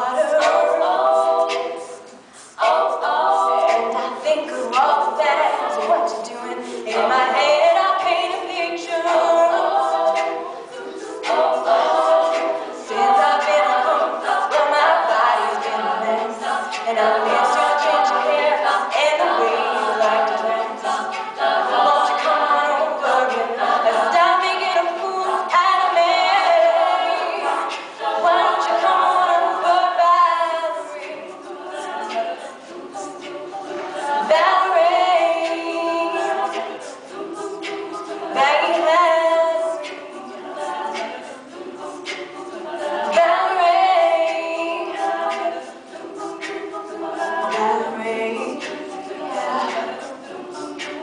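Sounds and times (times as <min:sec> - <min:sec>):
woman singing lead vocal: 0:00.0 - 0:51.0
women's a cappella group singing: 0:00.0 - 0:51.0.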